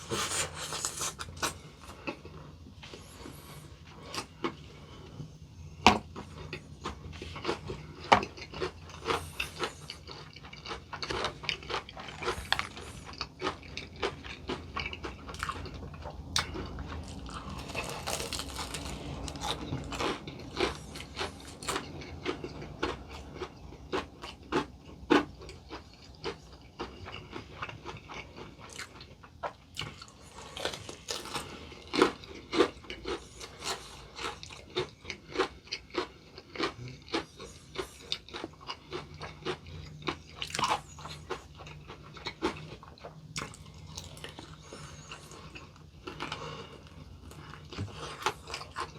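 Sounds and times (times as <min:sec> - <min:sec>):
crunchy chewing of fried chicken: 0:00.0 - 0:48.9.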